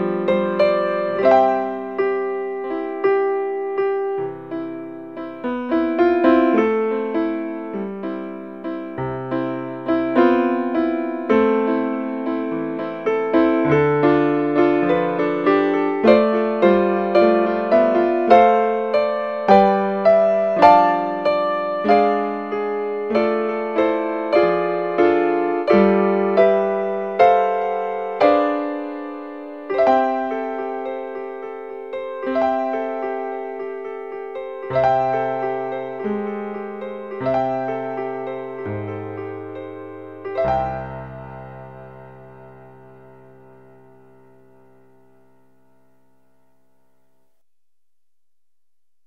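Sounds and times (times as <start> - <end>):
gentle piano melody: 0.0 - 47.4.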